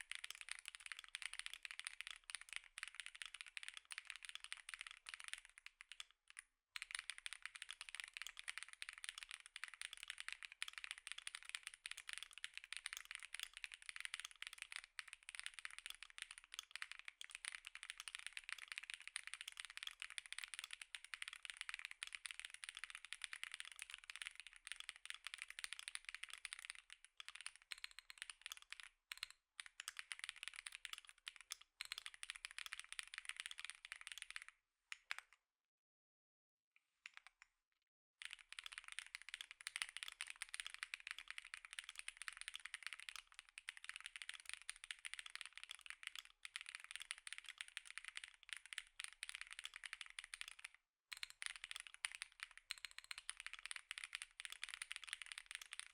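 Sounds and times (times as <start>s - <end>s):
fast keyboard typing: 0.0s - 34.5s, 38.2s - 55.9s.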